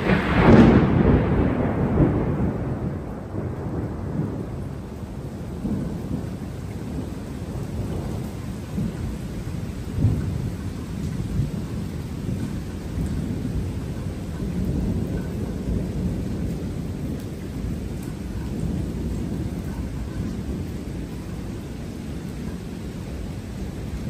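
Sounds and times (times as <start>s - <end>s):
thunder rumbling: 0.0s - 24.0s.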